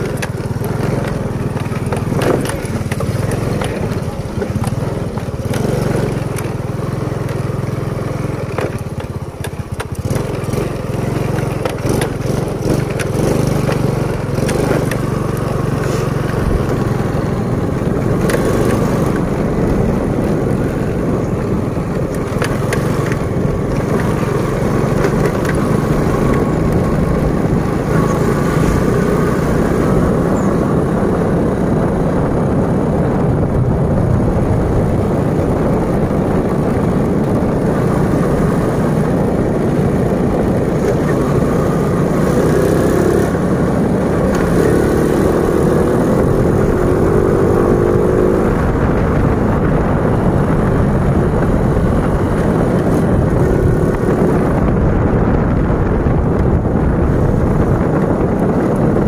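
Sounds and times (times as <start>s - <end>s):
knocks and rattles on dirt road: 0.0s - 59.0s
motorcycle engine running: 0.0s - 59.0s.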